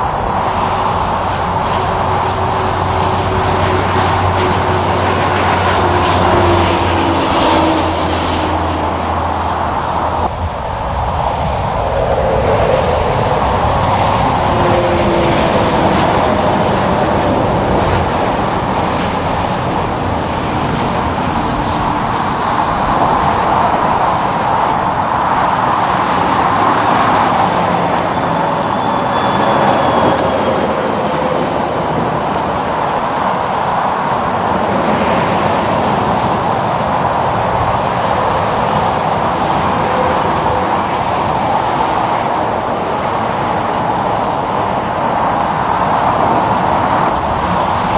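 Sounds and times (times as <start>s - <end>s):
road traffic tyre and engine noise: 0.0s - 47.9s
semi trucks passing: 0.0s - 47.9s.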